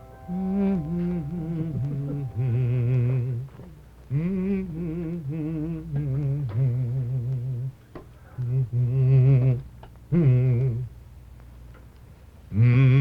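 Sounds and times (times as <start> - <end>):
man humming with vibrato: 0.0 - 7.8, 8.4 - 10.9, 12.5 - 13.0.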